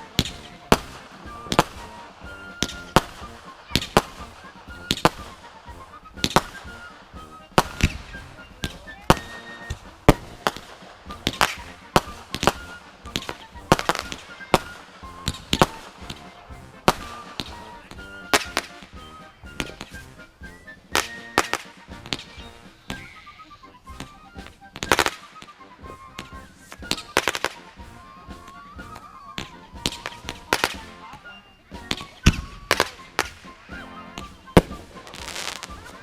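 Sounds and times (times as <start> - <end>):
fireworks bangs and pops: 0.0 - 23.1, 24.0 - 25.2, 26.2 - 31.0, 34.2 - 36.0
firework whistling: 0.0 - 36.0.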